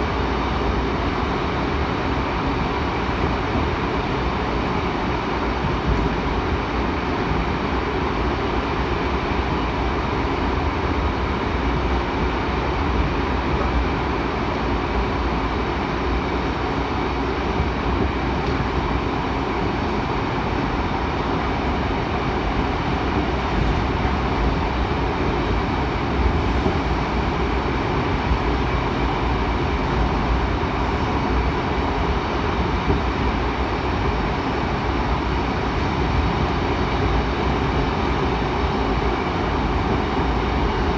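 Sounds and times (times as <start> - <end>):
subway train rumbling: 0.0 - 40.9.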